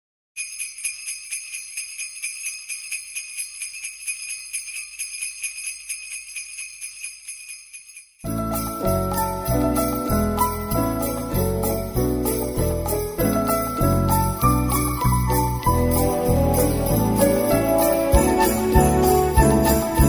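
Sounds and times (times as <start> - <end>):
jingle bells shaken: 0.4 - 20.0.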